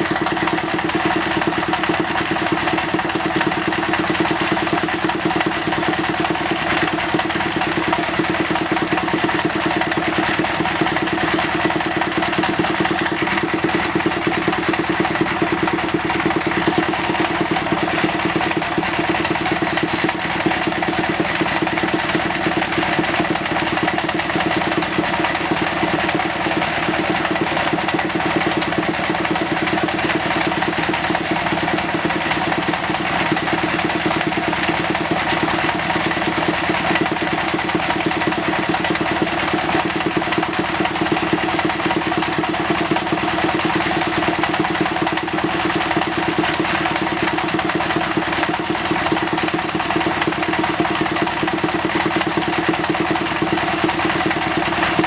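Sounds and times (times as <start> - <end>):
machine humming steadily: 0.0 - 55.0.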